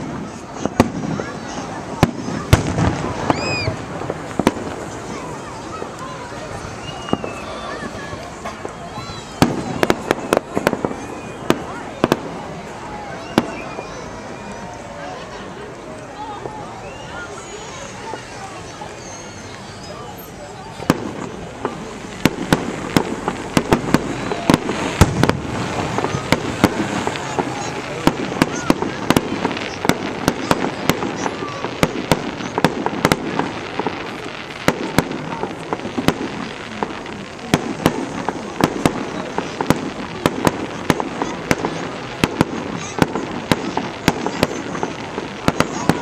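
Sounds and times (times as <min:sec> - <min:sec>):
fireworks bangs and pops: 0:00.0 - 0:15.4, 0:16.3 - 0:46.0.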